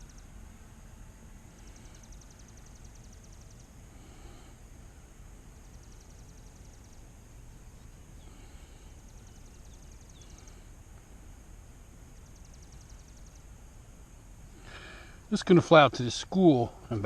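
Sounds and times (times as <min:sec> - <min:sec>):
insects chirping: 0:00.0 - 0:17.0
low outdoor rumble: 0:00.0 - 0:17.0.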